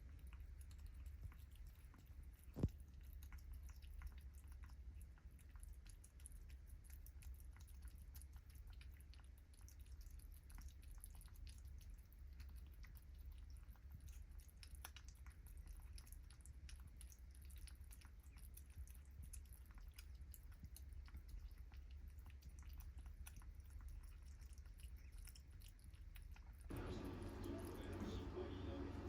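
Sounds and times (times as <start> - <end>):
kittens feeding wet clicks: 0.0 - 29.0
low steady hum: 0.0 - 29.0.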